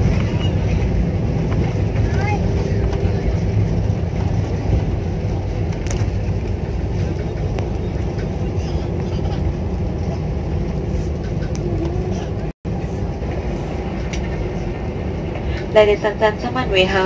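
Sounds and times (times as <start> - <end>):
airliner cabin rumble on runway: 0.0 - 17.0.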